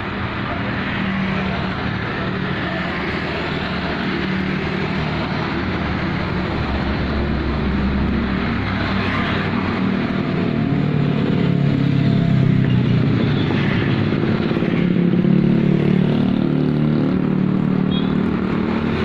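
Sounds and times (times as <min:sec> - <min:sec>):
passing vehicles: 0:00.0 - 0:19.0.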